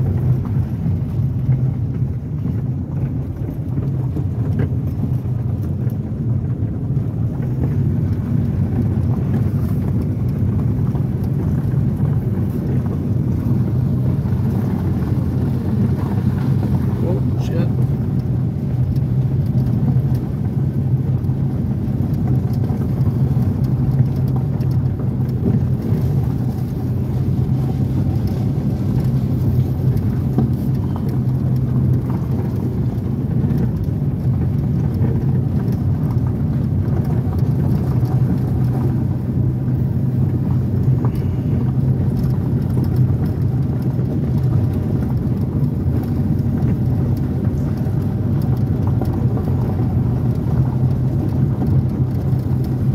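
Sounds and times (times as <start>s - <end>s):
car engine rumble: 0.0s - 52.9s
tyres rolling over gravel: 0.0s - 52.9s.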